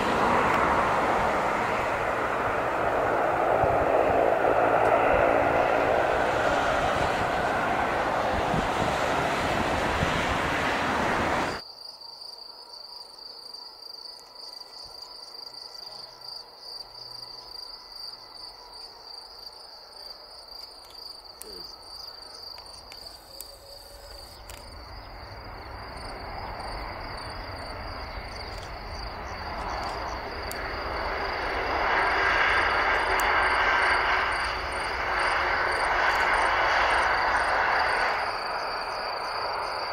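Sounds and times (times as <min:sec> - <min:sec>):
jet engines on landing: 0:00.0 - 0:11.6, 0:16.8 - 0:39.9
insects chirping high: 0:00.0 - 0:39.9.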